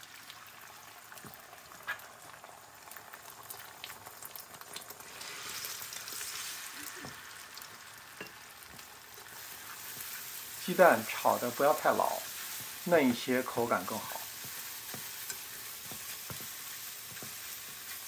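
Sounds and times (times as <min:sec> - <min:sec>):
eggs frying in hot oil: 0:00.0 - 0:18.0.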